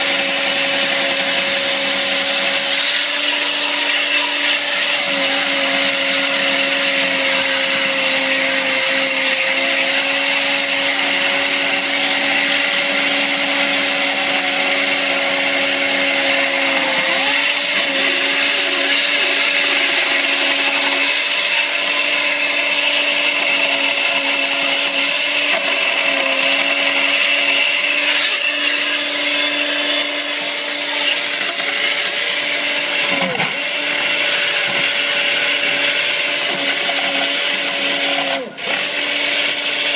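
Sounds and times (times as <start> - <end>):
chainsaw cutting concrete: 0.0 - 39.9.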